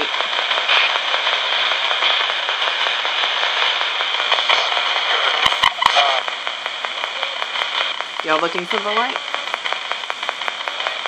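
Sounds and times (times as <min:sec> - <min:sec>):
radio static hiss: 0:00.0 - 0:11.0
sharp clicks: 0:00.0 - 0:11.0.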